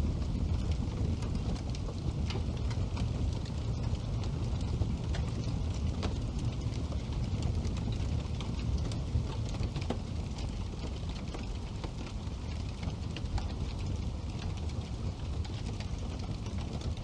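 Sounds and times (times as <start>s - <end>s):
fire rumbling: 0.0s - 17.0s
logs crackling and popping: 0.0s - 17.0s.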